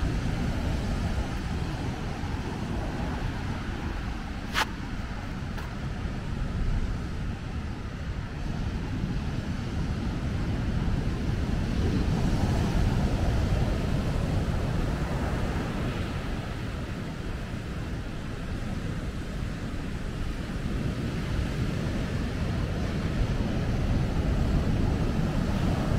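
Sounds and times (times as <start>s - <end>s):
ocean surf: 0.0s - 25.9s.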